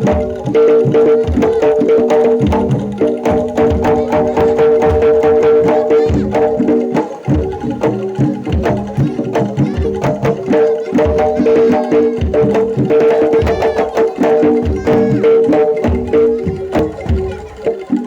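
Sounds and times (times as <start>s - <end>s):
drum strokes: 0.0s - 18.0s
high wavering melody: 0.0s - 18.0s
ringing gamelan tones: 0.0s - 18.0s.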